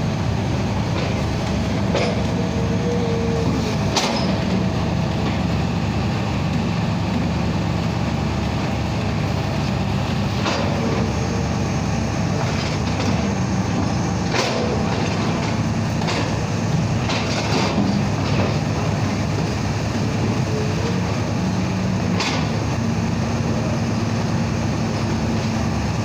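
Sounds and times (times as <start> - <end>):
crane engine running: 0.0 - 26.0.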